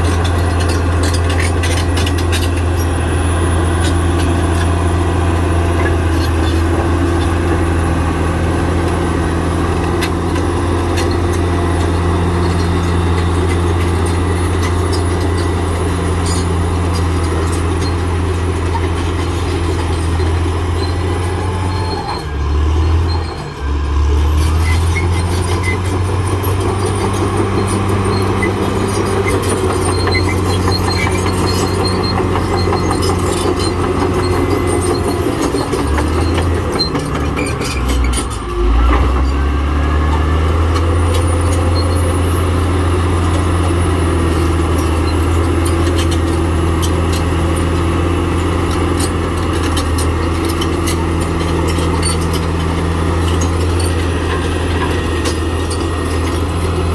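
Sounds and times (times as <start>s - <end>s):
bulldozer diesel engine: 0.0s - 56.9s
steel tracks clanking: 0.0s - 56.9s.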